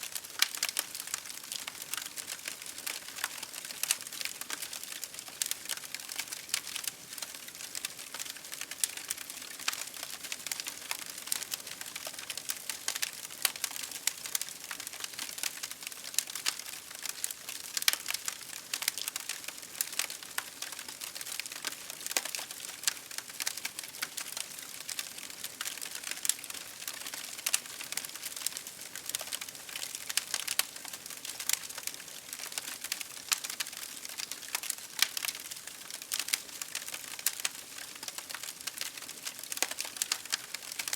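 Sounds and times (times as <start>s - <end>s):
campfire crackling: 0.1s - 40.9s.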